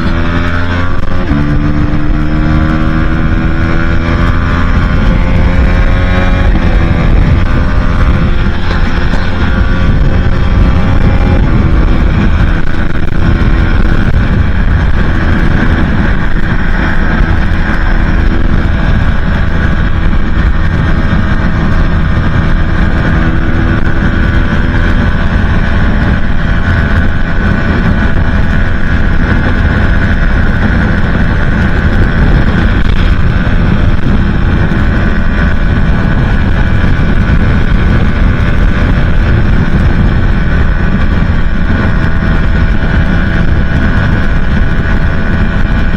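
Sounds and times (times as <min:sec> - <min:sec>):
motorcycle engine at high revs: 0:00.0 - 0:45.9
wind rumble on microphone: 0:00.0 - 0:45.9.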